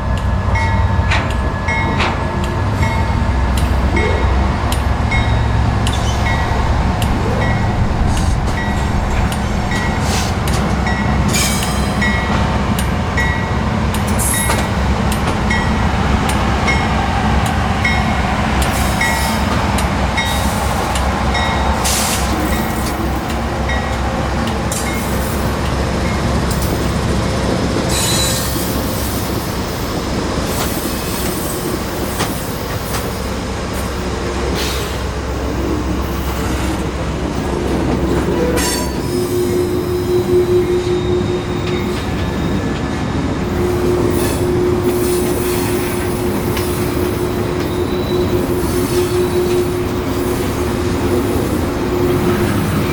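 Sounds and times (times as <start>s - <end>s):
train rolling past: 0.0s - 52.9s
train wheels clicking and squealing: 0.1s - 52.9s.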